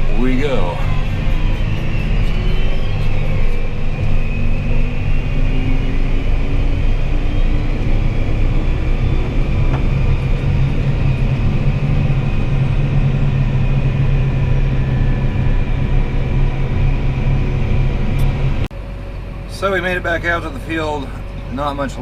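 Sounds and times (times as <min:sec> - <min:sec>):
combine engine drone: 0:00.0 - 0:22.0
high whine: 0:00.0 - 0:22.0.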